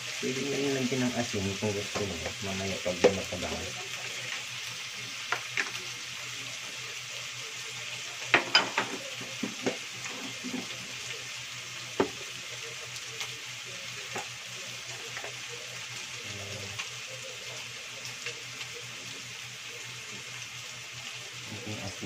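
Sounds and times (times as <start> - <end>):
food sizzling in frying pan: 0.0 - 22.0.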